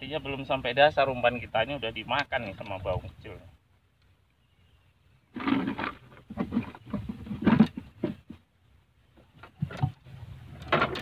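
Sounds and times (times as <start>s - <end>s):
fish handled in wooden boat: 1.8s - 11.0s.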